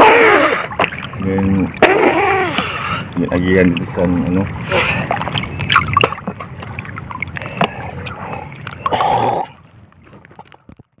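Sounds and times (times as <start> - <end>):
rush of water: 0.0 - 10.9
water sloshing around waders: 0.0 - 10.9.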